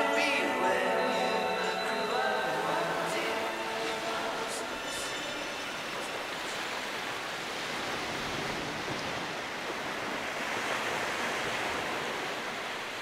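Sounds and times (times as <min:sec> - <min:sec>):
small waves breaking: 0:00.2 - 0:13.0.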